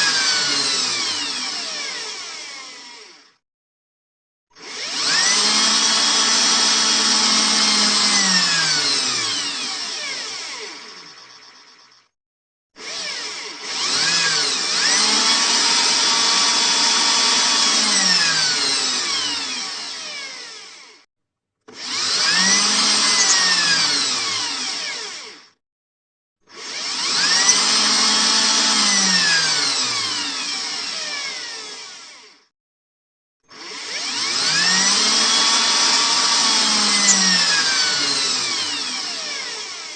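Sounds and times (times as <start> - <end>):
electric drill motor whirring: 0.0 - 3.4, 4.6 - 12.1, 12.8 - 25.6, 26.5 - 32.5, 33.5 - 39.9.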